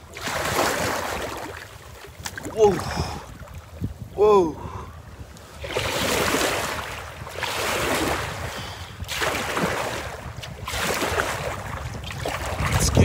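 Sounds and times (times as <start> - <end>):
water rushing around kayak hull: 0.0 - 13.0
wind rumbling on microphone: 0.0 - 13.0.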